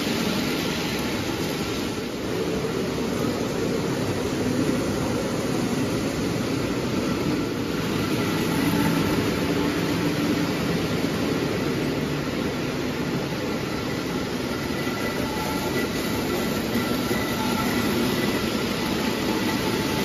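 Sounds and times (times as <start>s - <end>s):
toy train rumbling on track: 0.0s - 20.0s.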